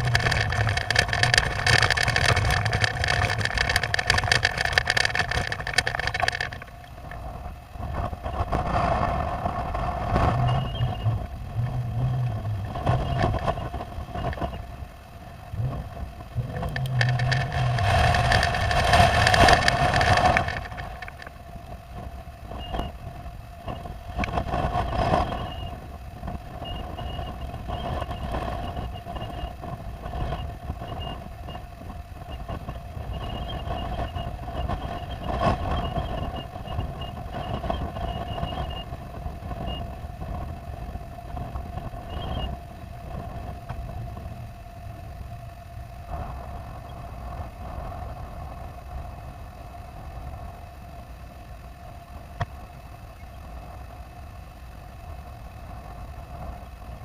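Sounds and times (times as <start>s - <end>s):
wind buffeting microphone: 0.0s - 51.0s
steady hum: 0.0s - 57.0s.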